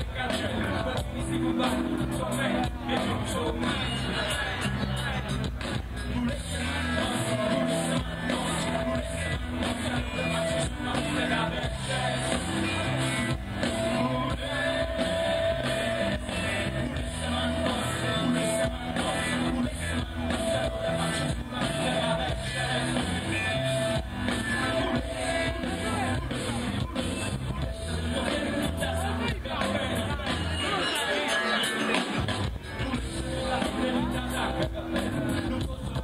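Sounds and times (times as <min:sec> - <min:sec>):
drums and bass: 0:00.0 - 0:36.0
person singing: 0:00.0 - 0:36.0.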